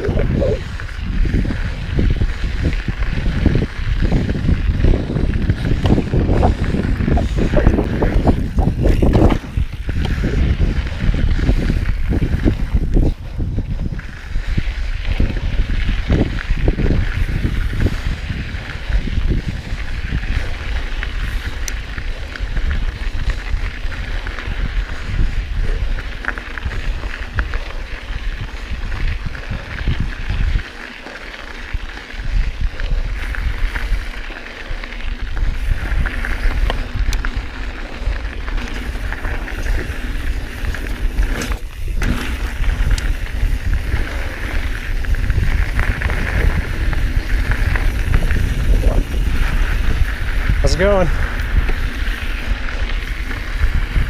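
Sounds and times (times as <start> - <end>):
bike knocking and rattling: 0.0 - 54.0
tyres rolling over dirt: 0.0 - 54.0
wind buffeting microphone: 0.0 - 54.0.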